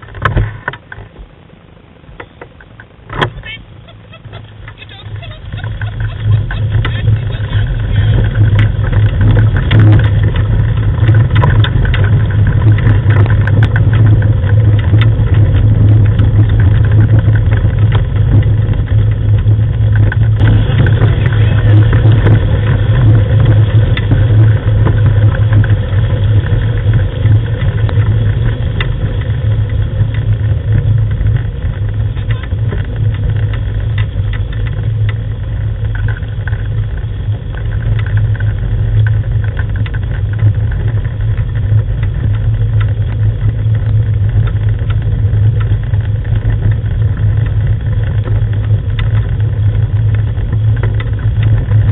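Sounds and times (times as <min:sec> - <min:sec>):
low engine-like drone: 0:00.0 - 0:51.9
wheels and paws on gravel: 0:02.3 - 0:51.9.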